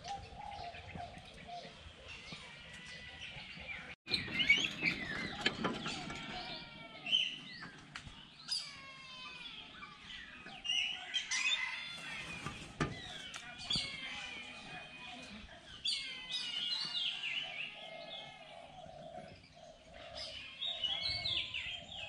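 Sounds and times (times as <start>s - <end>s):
birds chirping and whistling: 0.0s - 14.5s, 15.6s - 22.0s.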